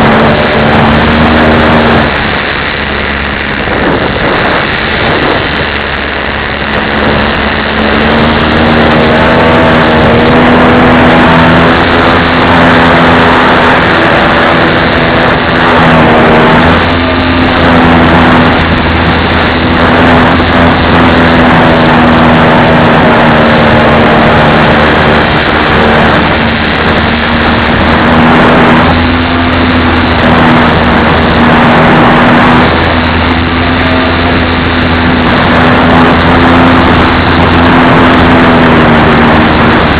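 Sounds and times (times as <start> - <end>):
model plane motor drone: 0.0 - 39.9
rush of air: 0.0 - 39.9.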